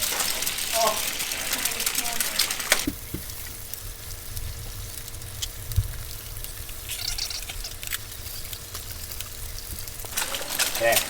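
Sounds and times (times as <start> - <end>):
food sizzling in grease: 0.0 - 11.0.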